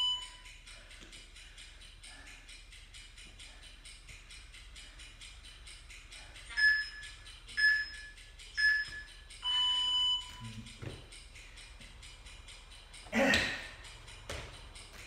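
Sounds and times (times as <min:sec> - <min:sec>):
background music with ticking beat: 0:00.0 - 0:15.0
timer beeps: 0:00.0 - 0:15.0.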